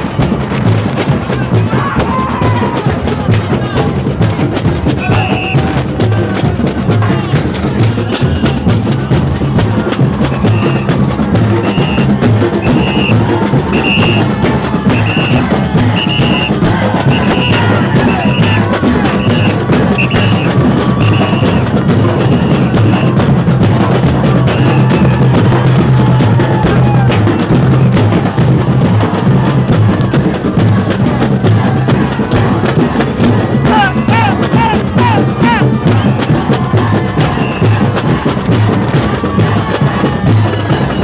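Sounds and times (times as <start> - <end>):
drums and bass drums playing: 0.0 - 41.0.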